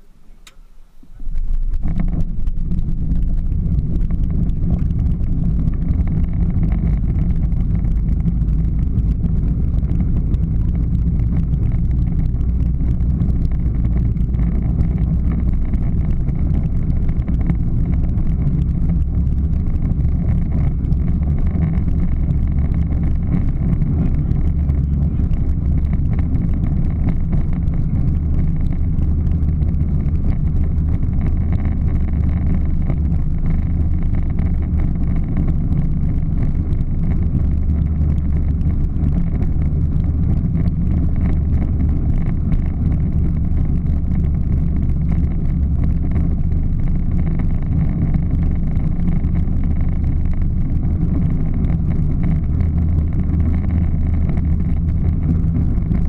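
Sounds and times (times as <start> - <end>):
plastic wheels rumbling on asphalt: 0.0 - 56.0
wind on microphone: 0.8 - 56.0.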